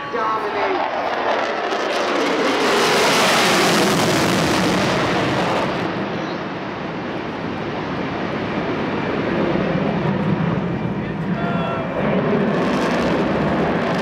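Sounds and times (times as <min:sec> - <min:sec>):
jet roar with afterburners: 0:00.0 - 0:14.0.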